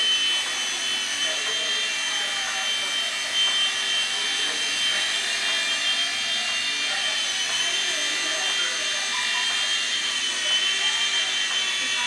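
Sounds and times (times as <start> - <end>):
rc helicopter rotor whine: 0.0 - 12.0.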